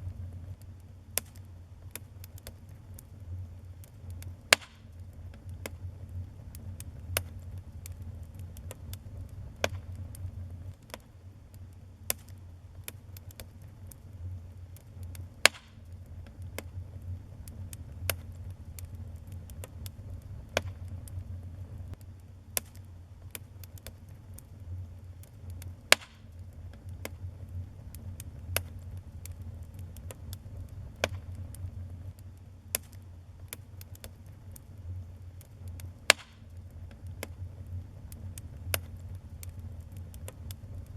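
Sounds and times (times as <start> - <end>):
low rumble of flames: 0.0 - 40.9
wood fire crackling: 0.0 - 40.9
sharp pops and snaps: 0.4 - 3.1, 3.8 - 40.9.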